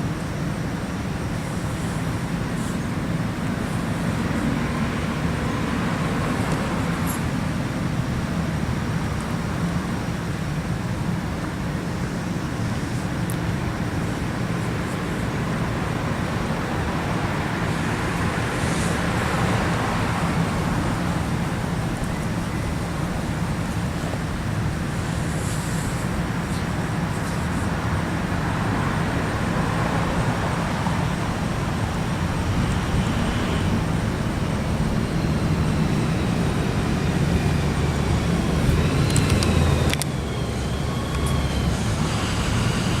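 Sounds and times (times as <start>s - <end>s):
low engine hum: 0.0s - 43.0s
passing vehicles rushing: 0.0s - 43.0s
road traffic rumble: 0.0s - 43.0s.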